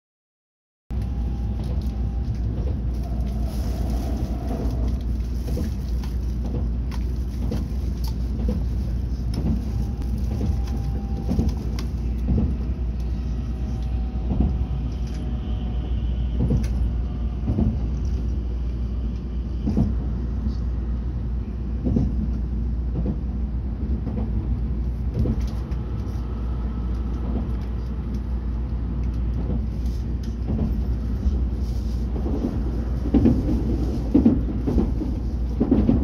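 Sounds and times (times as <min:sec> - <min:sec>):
train wheels rumbling on rails: 0:00.9 - 0:36.0.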